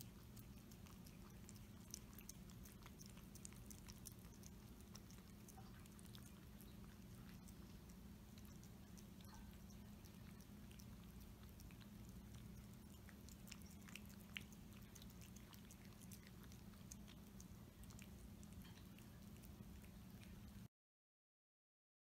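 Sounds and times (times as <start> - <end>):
cats chewing and licking: 0.0 - 20.7.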